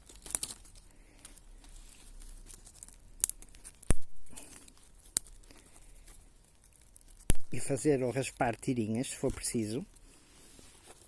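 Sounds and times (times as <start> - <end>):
dry sticks rustling: 0.0 - 11.0.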